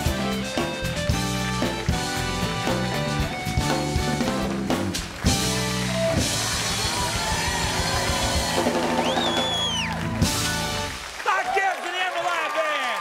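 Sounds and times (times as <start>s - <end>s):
live band playing upbeat music: 0.0s - 11.2s.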